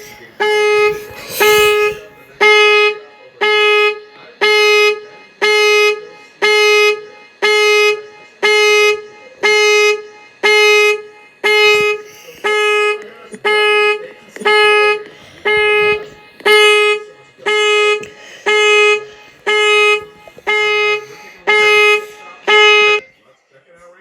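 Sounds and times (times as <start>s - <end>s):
car horn honking: 0.0s - 23.0s.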